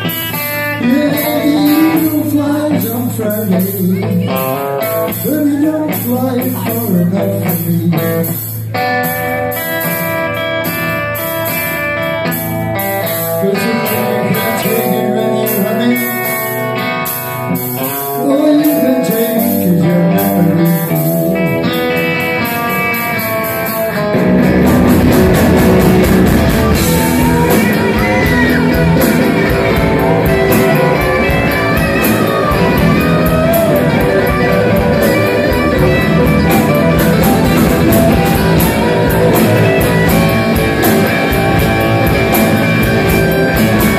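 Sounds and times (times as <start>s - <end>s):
drum kit: 0.0s - 43.9s
electric bass: 0.0s - 43.9s
electric guitar: 0.0s - 43.9s.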